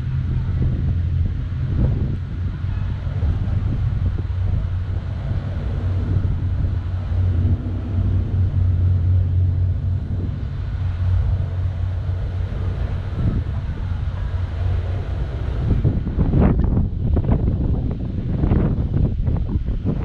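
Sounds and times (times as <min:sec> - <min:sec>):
low engine drone: 0:00.0 - 0:20.0
outdoor noise: 0:00.0 - 0:20.0.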